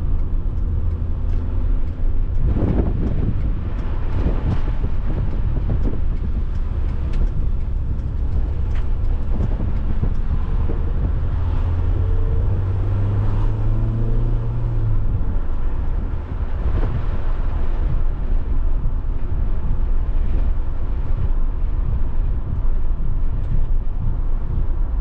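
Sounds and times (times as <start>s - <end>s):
car engine running: 0.0s - 25.0s
road and wind rumble: 0.0s - 25.0s.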